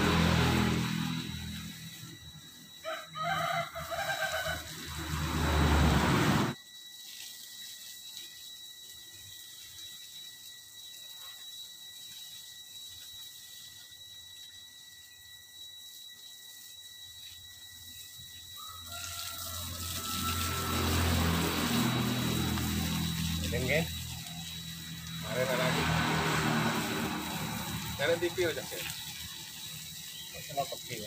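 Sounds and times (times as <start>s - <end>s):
garden hose spraying water: 0.0s - 31.0s.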